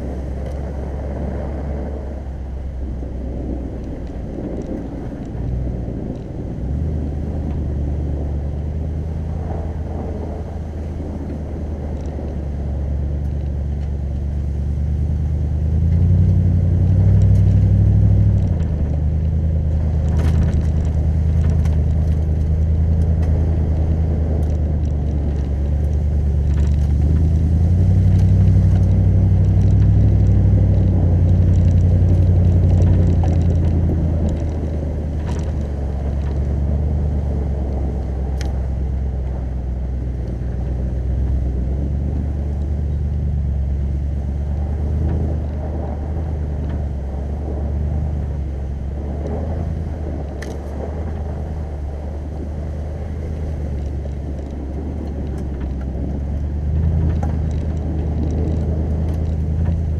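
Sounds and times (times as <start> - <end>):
engine running at low speed: 0.0 - 59.9.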